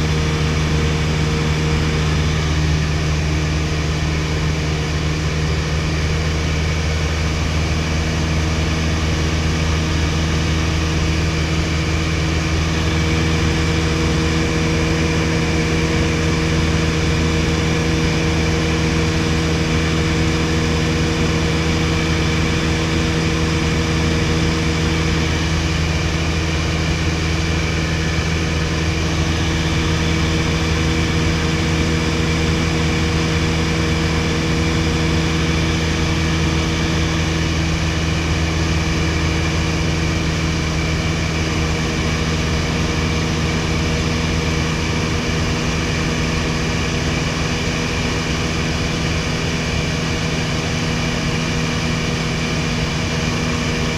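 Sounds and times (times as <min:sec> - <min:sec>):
airplane engine and propeller drone: 0:00.0 - 0:53.9.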